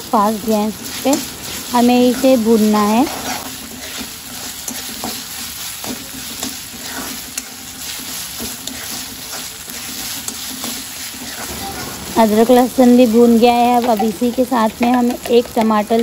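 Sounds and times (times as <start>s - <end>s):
onions sizzling in oil: 0.0s - 16.0s
steel spoon scraping pan: 0.5s - 15.0s.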